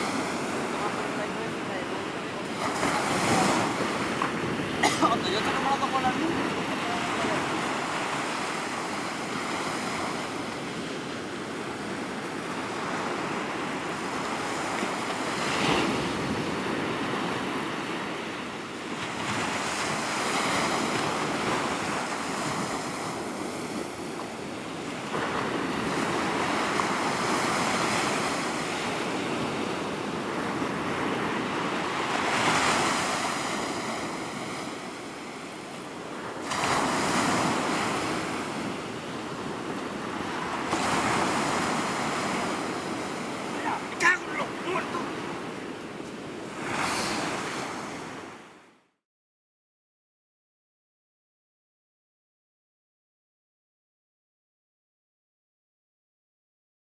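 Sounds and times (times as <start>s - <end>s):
wind on microphone: 0.0s - 48.4s
surf breaking on shore: 0.0s - 48.6s.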